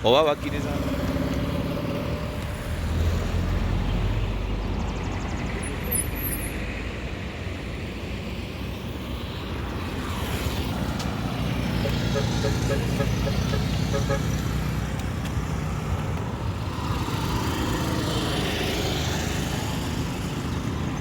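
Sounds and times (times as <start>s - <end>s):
road noise: 0.0s - 21.0s
vehicle passing with low rumble: 0.0s - 21.0s.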